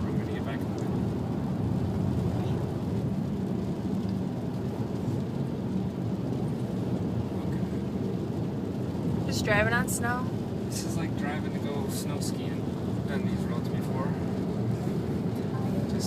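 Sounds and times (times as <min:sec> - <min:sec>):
car engine: 0:00.0 - 0:16.0
tyre and road noise: 0:00.0 - 0:16.0.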